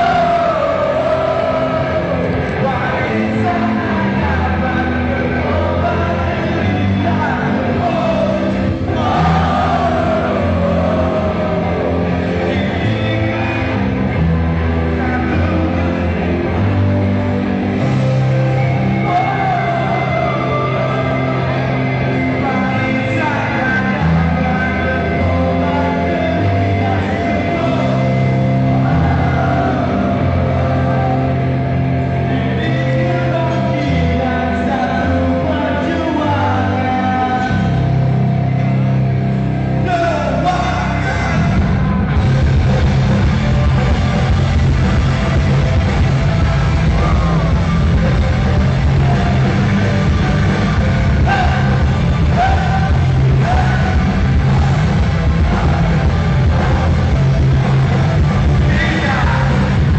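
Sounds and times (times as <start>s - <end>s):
lead singer singing: 0.0s - 59.9s
live rock band playing: 0.0s - 59.9s.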